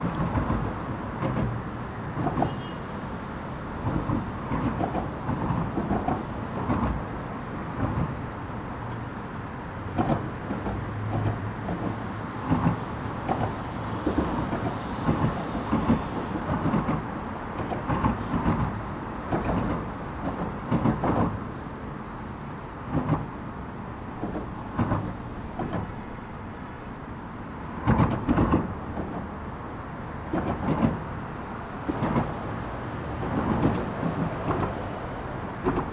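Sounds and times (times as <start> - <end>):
wheels thumping bridge joints: 0.0 - 2.7, 3.7 - 35.9
traffic drone: 0.0 - 35.9.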